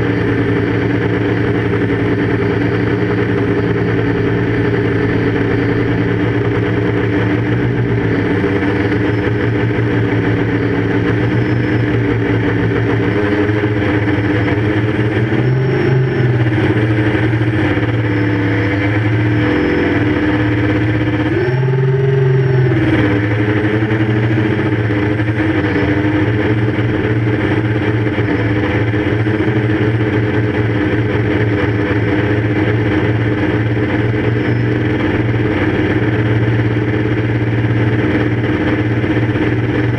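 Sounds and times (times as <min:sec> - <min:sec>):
quadcopter motors humming: 0:00.0 - 0:39.9.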